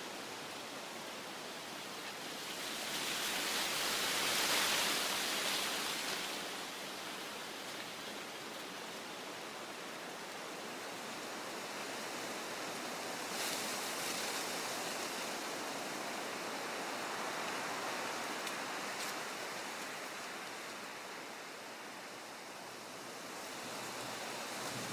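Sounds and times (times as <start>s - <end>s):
leaves rustling in wind: 0.0s - 24.9s.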